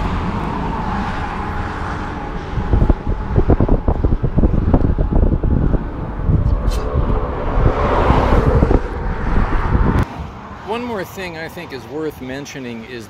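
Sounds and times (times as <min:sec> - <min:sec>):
wind buffeting microphone: 0:00.0 - 0:10.5
road traffic: 0:00.0 - 0:13.0.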